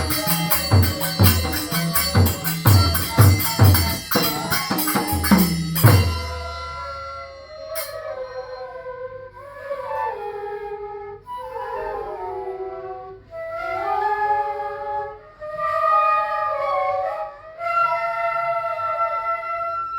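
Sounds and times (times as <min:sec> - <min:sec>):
bamboo flute melody: 0:00.0 - 0:19.9.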